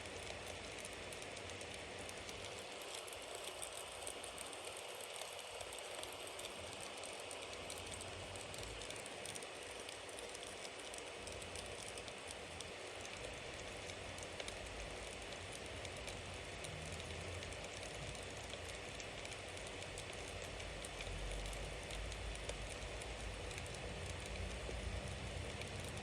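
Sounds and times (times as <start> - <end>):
bonfire crackling and popping: 0.0 - 26.0.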